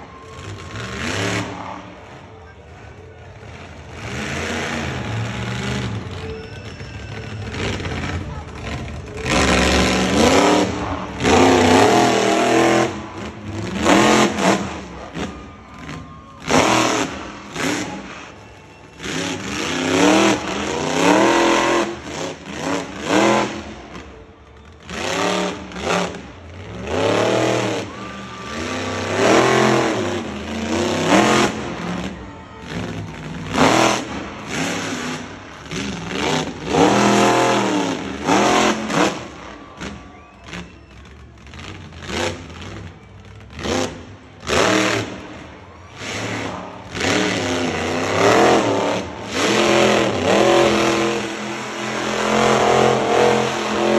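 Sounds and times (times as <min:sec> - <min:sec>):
truck engine revving hard: 0:00.0 - 0:02.2, 0:03.4 - 0:53.9.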